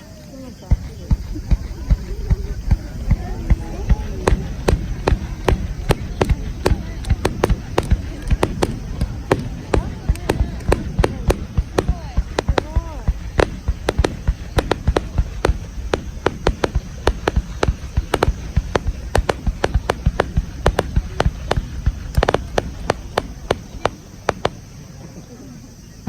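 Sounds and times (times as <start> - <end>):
fireworks bangs and crackles: 0.0 - 26.0
low rumble: 0.7 - 24.6.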